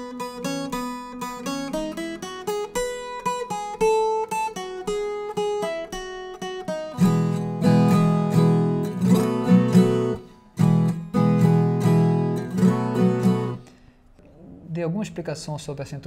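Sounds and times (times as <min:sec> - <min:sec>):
strummed guitar chords: 0:00.0 - 0:13.8
picked guitar melody: 0:00.0 - 0:13.9.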